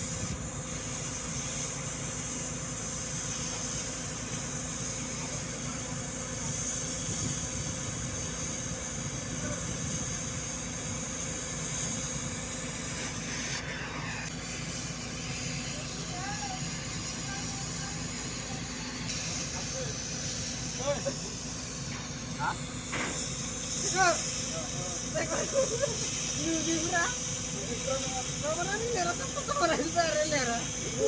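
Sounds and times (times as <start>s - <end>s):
cutting torch hissing: 0.0s - 31.0s
low machinery hum: 0.0s - 31.0s.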